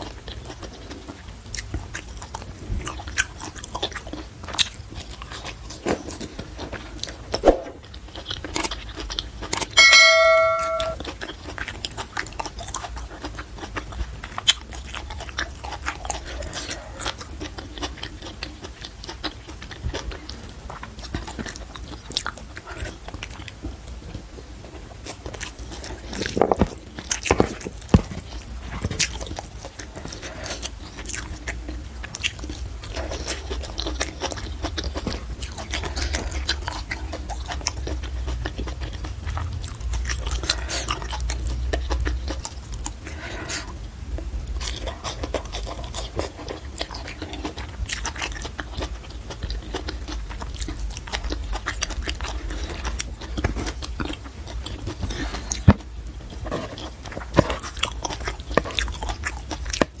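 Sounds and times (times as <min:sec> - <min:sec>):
chewing and crunching: 0:00.0 - 1:00.0
low steady hum: 0:00.0 - 1:00.0.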